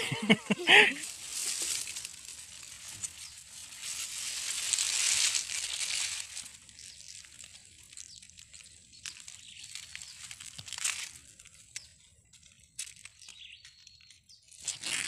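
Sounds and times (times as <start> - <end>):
dry grass and leaves rustling: 0.0 - 15.0.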